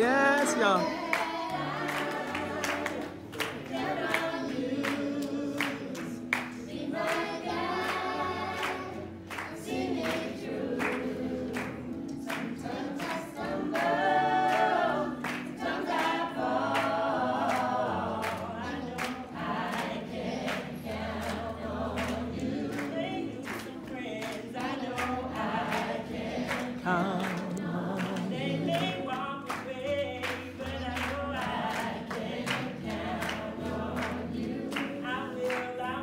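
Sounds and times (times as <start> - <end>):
people singing together: 0.0 - 36.0.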